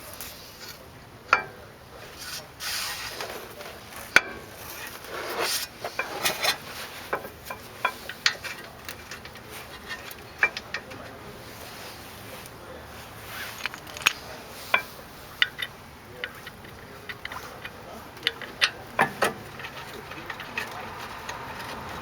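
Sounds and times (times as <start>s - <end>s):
scraping and rubbing of metal parts: 0.1s - 22.0s.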